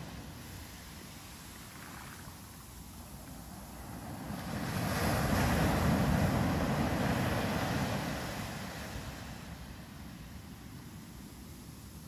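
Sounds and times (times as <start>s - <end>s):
ocean wave rushing up beach: 0.0s - 12.0s.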